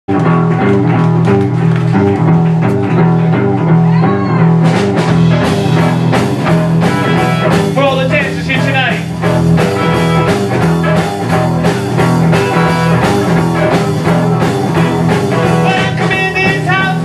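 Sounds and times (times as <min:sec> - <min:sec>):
blues rock band playing: 0:00.1 - 0:17.0.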